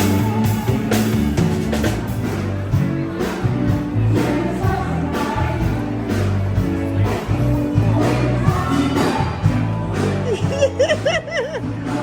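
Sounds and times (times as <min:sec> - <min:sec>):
band music with singer: 0:00.0 - 0:12.0.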